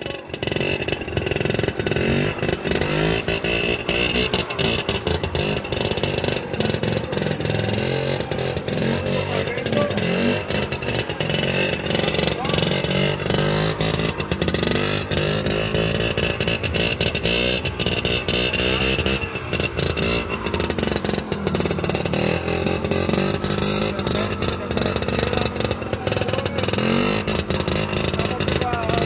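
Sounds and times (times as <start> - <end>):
scooter engine revving: 0.0 - 29.0.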